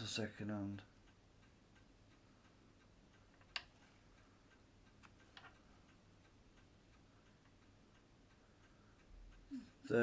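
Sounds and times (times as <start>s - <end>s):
clockwork ticking: 0.0s - 10.0s.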